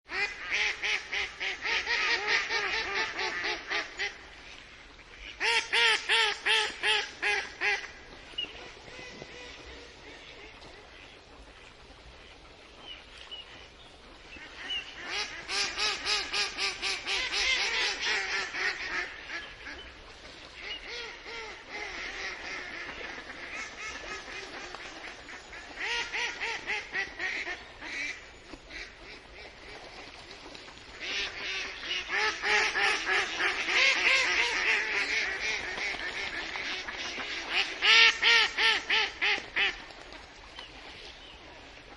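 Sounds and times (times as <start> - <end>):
ducks quacking: 0.1 - 4.4, 5.2 - 12.5, 14.2 - 39.9.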